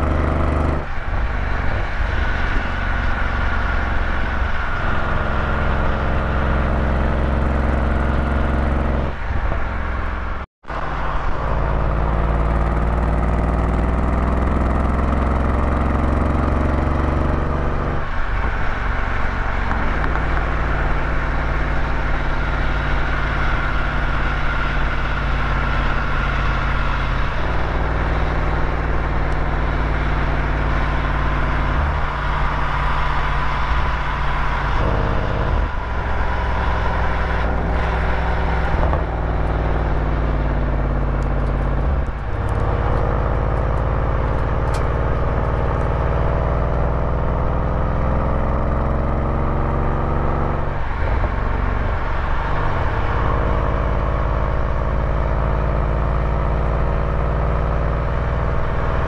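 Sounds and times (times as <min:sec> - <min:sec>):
road noise: 0:00.0 - 0:59.0
vehicle engine shifting gears: 0:00.0 - 0:59.0.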